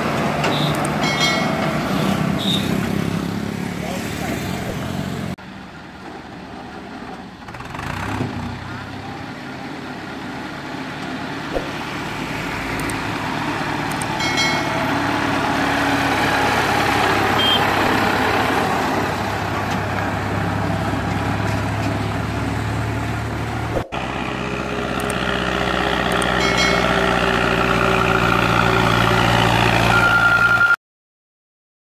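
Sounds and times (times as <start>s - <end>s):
diesel tractor engines under load: 0.0s - 30.8s.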